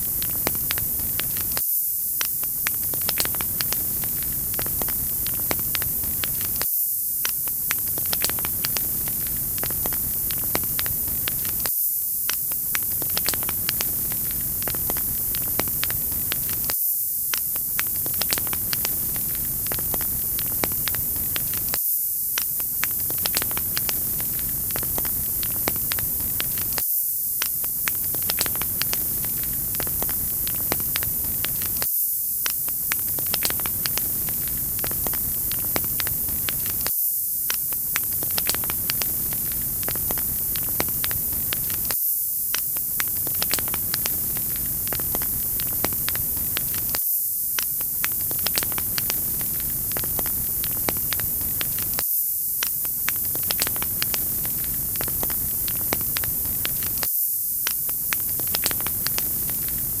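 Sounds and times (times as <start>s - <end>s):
wood fire crackling: 0.0s - 1.6s, 2.2s - 6.6s, 7.3s - 11.7s, 12.3s - 16.7s, 17.3s - 21.8s, 22.4s - 26.8s, 27.4s - 36.9s, 37.5s - 47.0s, 47.6s - 52.0s, 52.6s - 60.0s.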